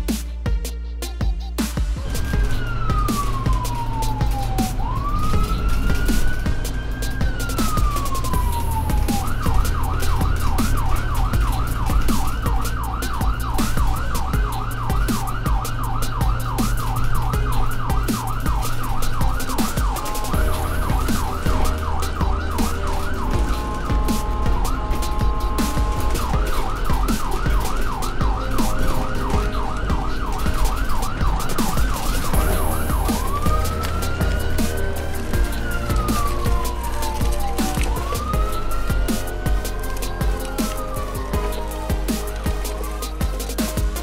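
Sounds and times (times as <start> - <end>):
ambulance siren wailing and yelping: 2.0 - 44.0.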